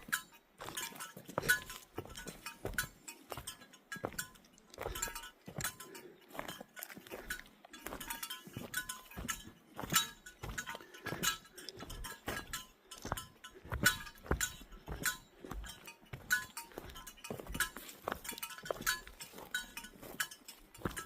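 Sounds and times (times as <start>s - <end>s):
footsteps on forest trail: 0.0s - 21.0s
light metallic clinking: 0.0s - 21.0s.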